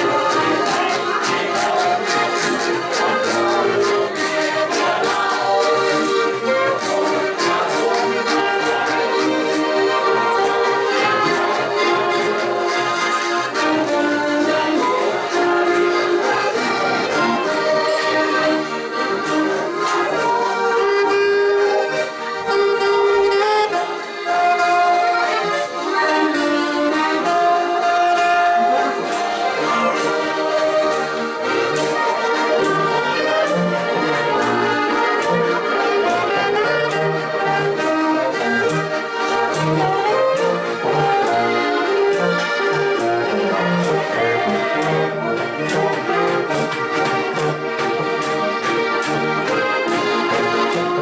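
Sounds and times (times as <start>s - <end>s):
brass horn: 0.0s - 51.0s
button accordions playing: 0.0s - 51.0s
clarinet: 0.0s - 51.0s
saxophone: 0.0s - 51.0s.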